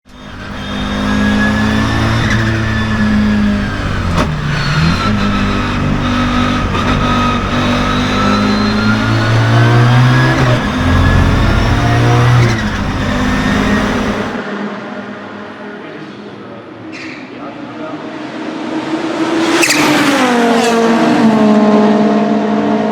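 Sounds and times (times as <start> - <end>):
turbocharged car engine accelerating: 0.0 - 14.5, 18.0 - 22.9.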